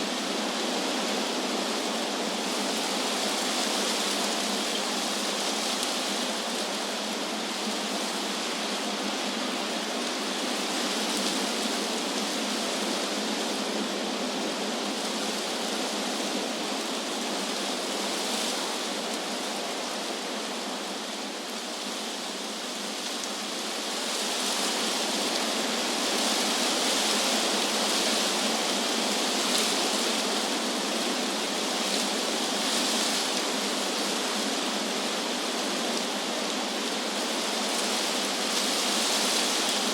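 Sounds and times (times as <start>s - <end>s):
wind rustling tree leaves: 0.0s - 39.9s.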